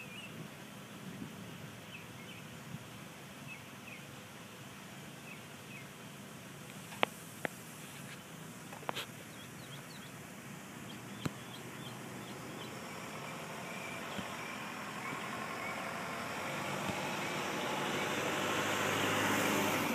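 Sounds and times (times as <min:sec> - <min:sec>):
distant road traffic: 0:00.0 - 0:19.9.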